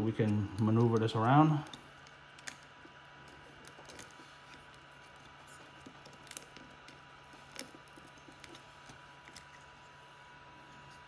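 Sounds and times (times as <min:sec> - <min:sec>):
steady low hum: 0:00.0 - 0:11.0
adhesive being peeled: 0:00.1 - 0:09.8.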